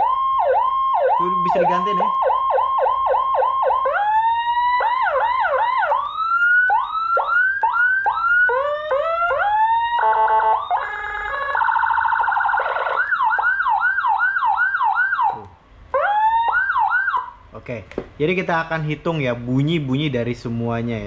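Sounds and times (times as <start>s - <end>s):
electronic siren sweeping: 0.0s - 17.4s.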